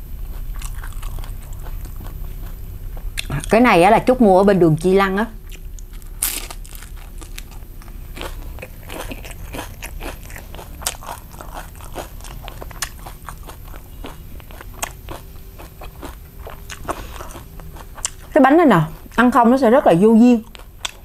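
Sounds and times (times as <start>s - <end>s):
crisp crunchy chewing: 0.2s - 3.5s, 5.4s - 19.2s, 20.4s - 21.0s.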